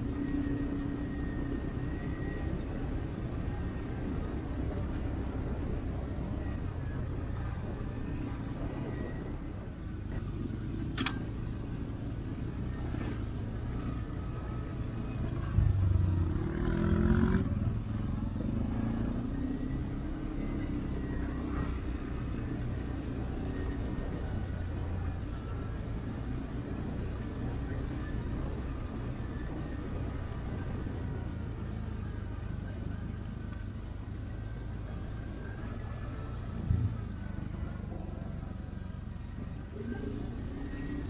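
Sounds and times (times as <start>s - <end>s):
atv engine rumbling and revving: 0.0s - 41.0s.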